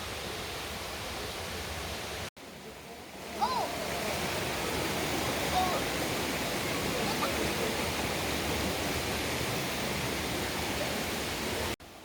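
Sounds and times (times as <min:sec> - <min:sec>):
mountain stream rushing over rocks: 0:00.0 - 0:12.0.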